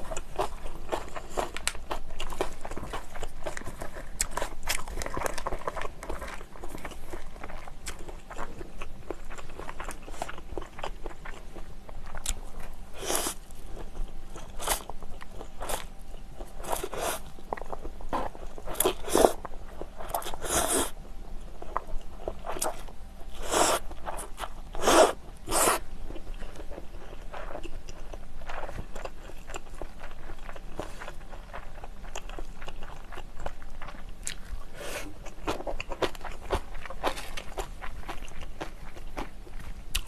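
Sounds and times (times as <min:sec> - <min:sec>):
wet chewing: 0:00.0 - 0:21.0, 0:21.7 - 0:40.0.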